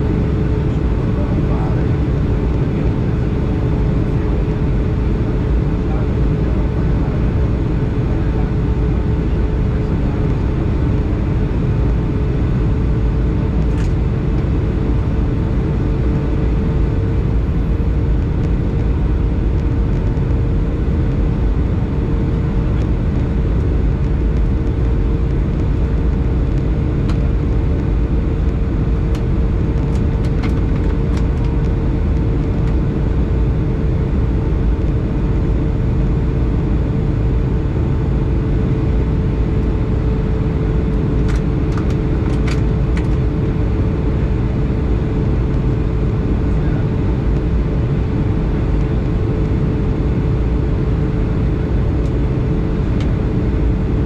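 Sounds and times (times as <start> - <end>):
aircraft cabin engine rumble: 0.0 - 54.0.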